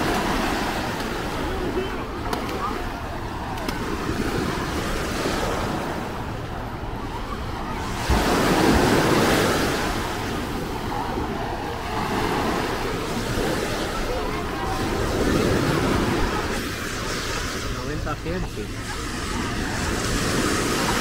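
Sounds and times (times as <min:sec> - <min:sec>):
waves washing onto sand beach: 0:00.0 - 0:21.0.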